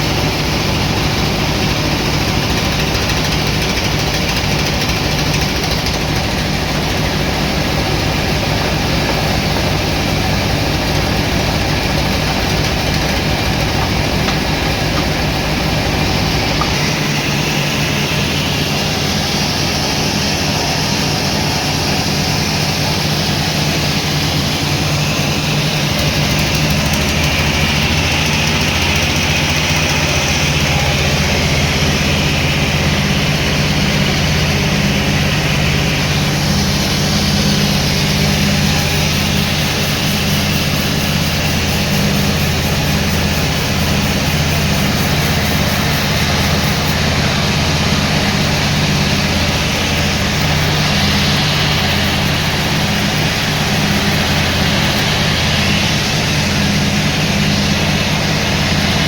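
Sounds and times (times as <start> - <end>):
high-pitched machine whine: 0.0 - 59.0
sawmill machinery humming: 0.0 - 59.0.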